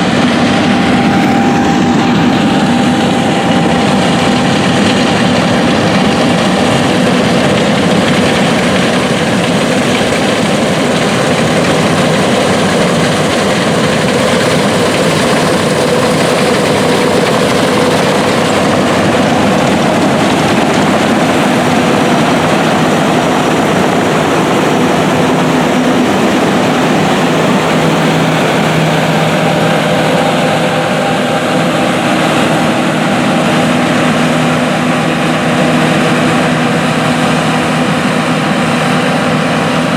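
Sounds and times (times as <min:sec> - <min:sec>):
diesel farm machinery running: 0:00.0 - 0:39.9.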